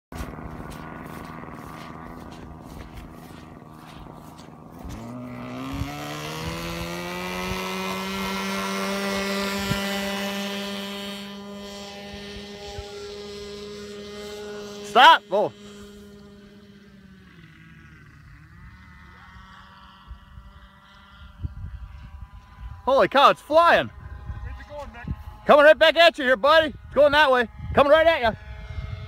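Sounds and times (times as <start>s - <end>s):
model aircraft motor whine: 0.1s - 29.0s.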